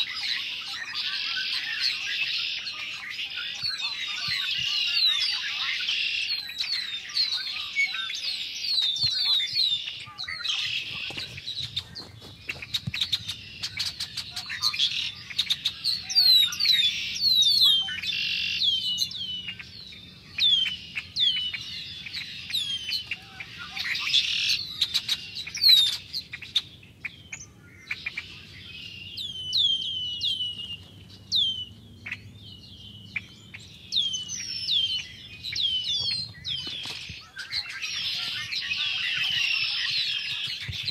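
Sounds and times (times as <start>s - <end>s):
flock of blackbirds calling: 0.0s - 40.9s.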